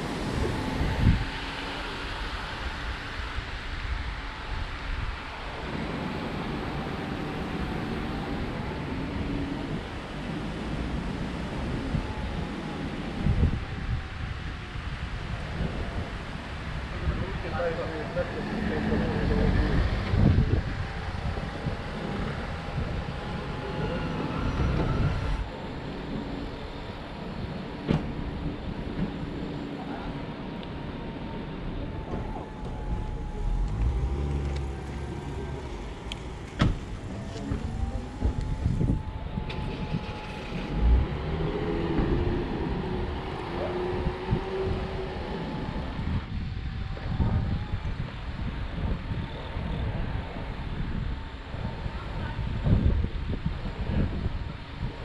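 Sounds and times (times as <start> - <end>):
low urban rumble: 0.0 - 55.0
street ambience: 0.0 - 55.0
vehicle engine hum: 0.0 - 55.0.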